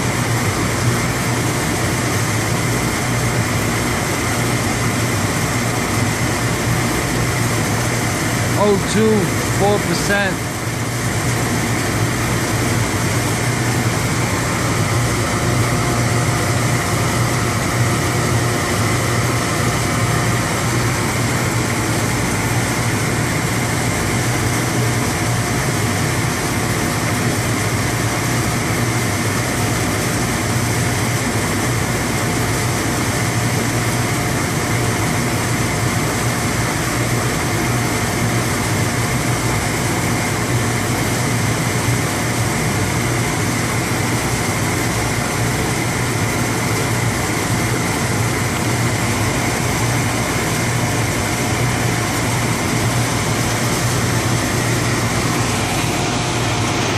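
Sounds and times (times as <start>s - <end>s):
gas boiler burner and blower humming: 0.0s - 56.9s.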